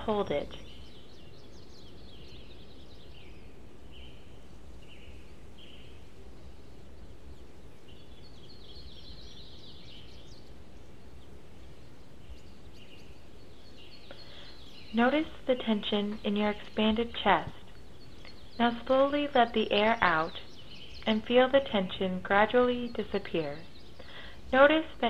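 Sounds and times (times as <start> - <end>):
birds chirping: 0.0 - 25.0
low background noise: 0.0 - 25.0.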